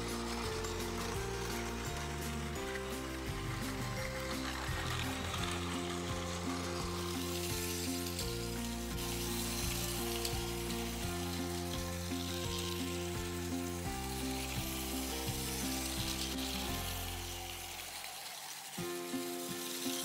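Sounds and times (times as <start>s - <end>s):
background music: 0.0s - 20.0s
toy train motor whirring: 0.0s - 20.0s.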